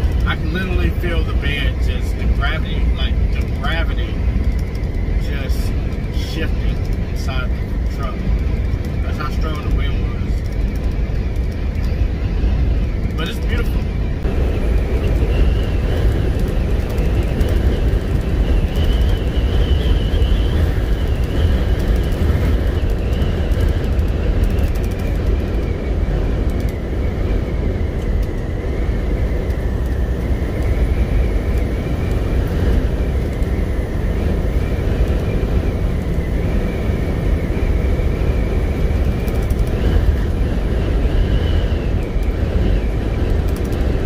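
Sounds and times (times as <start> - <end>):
truck engine and road rumble: 0.0 - 44.0.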